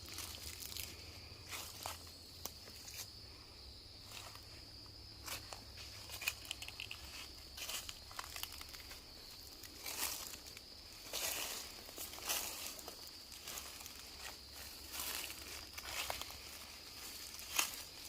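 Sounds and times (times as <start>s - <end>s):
footsteps crunching on dry leaves: 0.0s - 3.2s, 4.0s - 18.0s.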